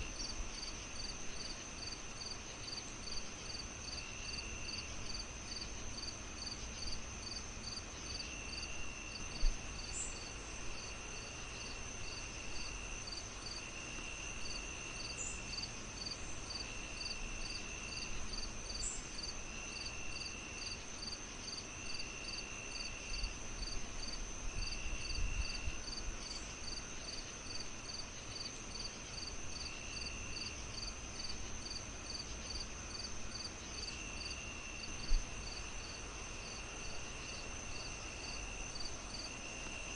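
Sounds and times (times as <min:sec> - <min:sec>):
crickets chirping: 0:00.0 - 0:39.9
high insect whine: 0:00.0 - 0:39.9
insect trills: 0:00.0 - 0:39.9.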